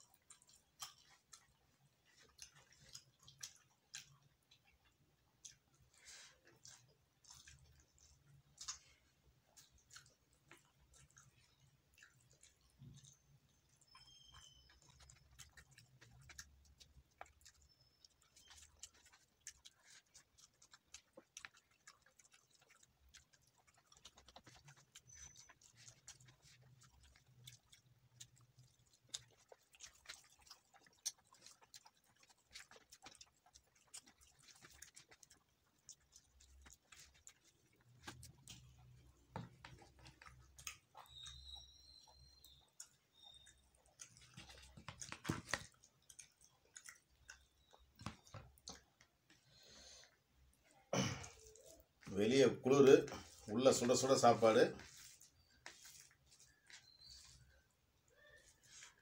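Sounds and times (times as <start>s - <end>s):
man chewing food: 0.0s - 59.0s
soft mouth clicks and smacks: 0.0s - 59.0s.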